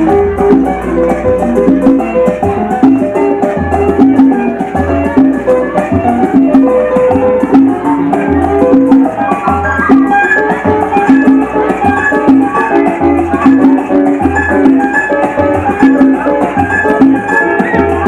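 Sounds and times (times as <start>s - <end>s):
latin dance music from vinyl: 0.0s - 18.0s.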